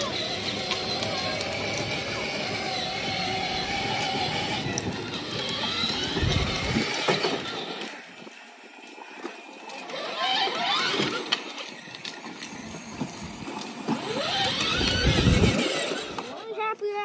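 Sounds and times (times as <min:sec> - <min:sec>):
electric toy truck motor whining: 0:00.0 - 0:16.5
second ride-on toy running: 0:00.0 - 0:16.7
plastic wheels rolling on concrete: 0:00.0 - 0:17.0.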